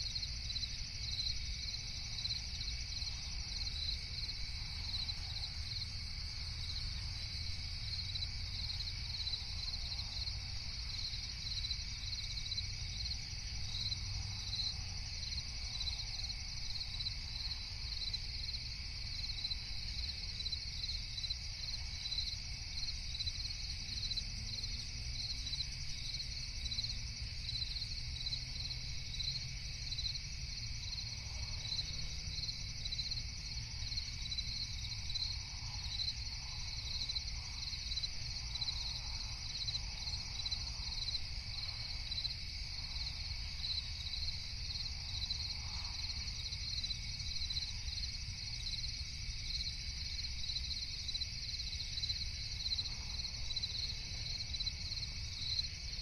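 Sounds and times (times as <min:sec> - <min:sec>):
crickets chirping: 0:00.0 - 0:56.0
low forest background rumble: 0:00.0 - 0:56.0.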